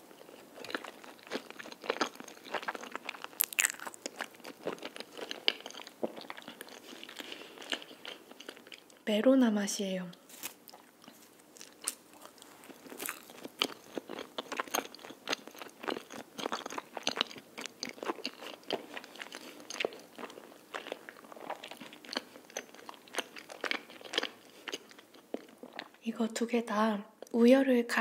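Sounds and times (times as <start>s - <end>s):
person chewing: 0.1s - 9.0s, 10.4s - 26.0s.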